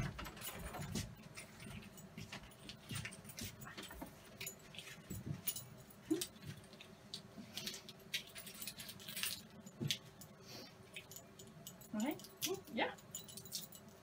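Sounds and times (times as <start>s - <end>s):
keys clinking: 0.0s - 14.0s.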